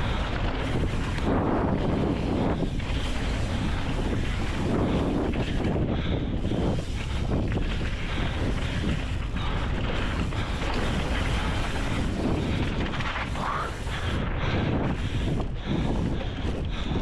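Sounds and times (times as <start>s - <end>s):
tyres rolling over dirt: 0.0s - 14.0s
bike rattling over bumps: 0.0s - 17.0s
wind rushing over microphone: 0.0s - 17.0s.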